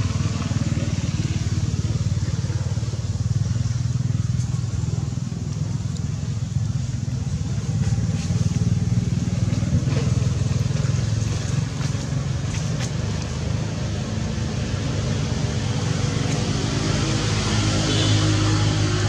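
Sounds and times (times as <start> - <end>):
motor engine humming: 0.0 - 19.0.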